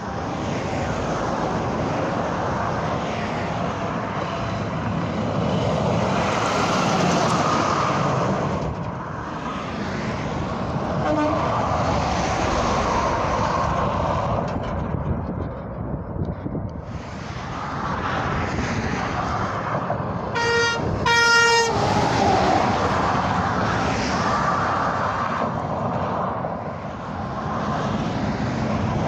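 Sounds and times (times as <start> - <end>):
highway traffic passing: 0.0 - 29.0.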